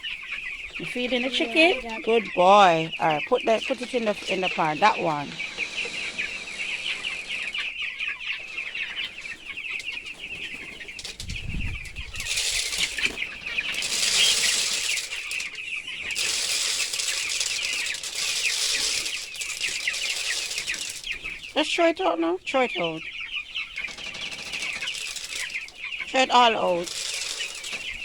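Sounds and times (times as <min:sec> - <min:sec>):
rustling and scuffling: 0:00.0 - 0:21.6, 0:22.8 - 0:28.0
chickens cheeping: 0:00.0 - 0:28.0.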